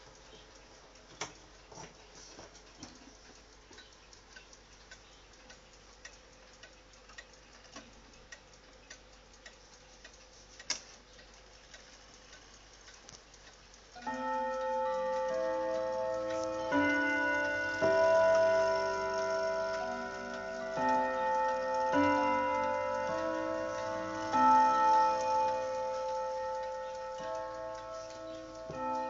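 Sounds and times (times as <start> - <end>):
wall clock ticking: 0.0 - 29.0.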